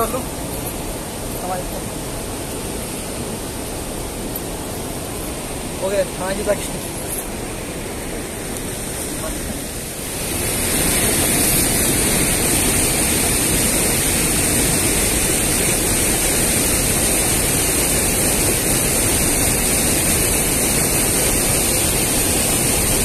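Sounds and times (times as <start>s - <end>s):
river water rushing over weir: 0.0s - 23.0s.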